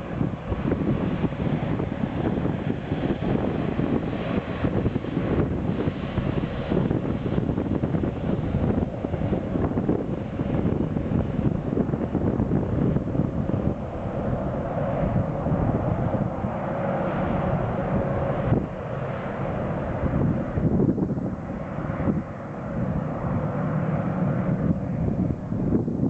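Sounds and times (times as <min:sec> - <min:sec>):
airliner engines roaring: 0:00.0 - 0:26.0.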